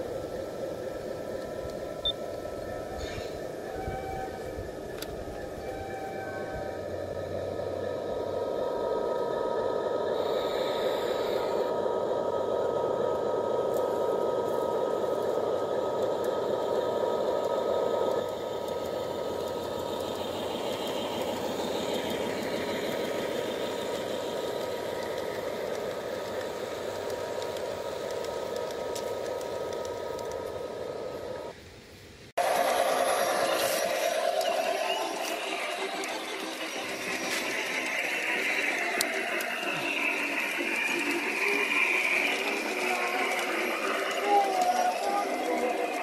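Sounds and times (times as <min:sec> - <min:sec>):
model train running on track: 0:00.0 - 0:31.6, 0:32.4 - 0:46.0
thin whining tones: 0:00.0 - 0:31.6, 0:32.4 - 0:46.0.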